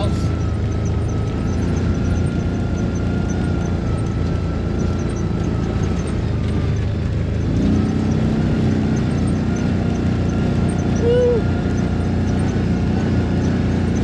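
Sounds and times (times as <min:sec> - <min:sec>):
farm vehicle engine running: 0:00.0 - 0:14.0.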